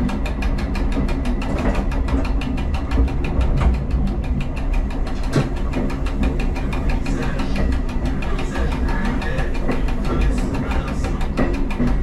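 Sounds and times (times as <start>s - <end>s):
diesel railcar engine droning: 0.0s - 12.0s.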